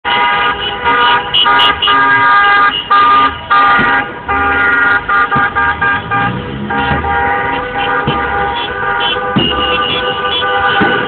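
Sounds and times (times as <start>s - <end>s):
car horns honking: 0.0s - 11.0s.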